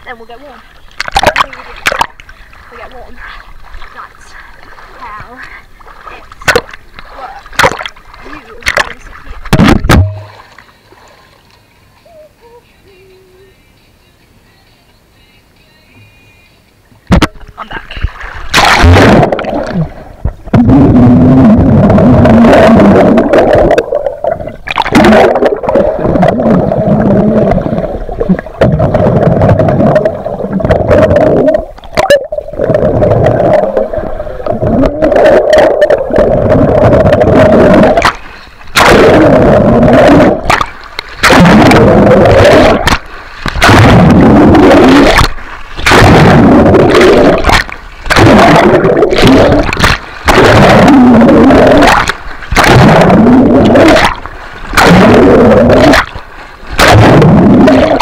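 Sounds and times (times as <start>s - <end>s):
underwater rushing and bubbling: 0.0s - 11.4s, 17.1s - 58.0s.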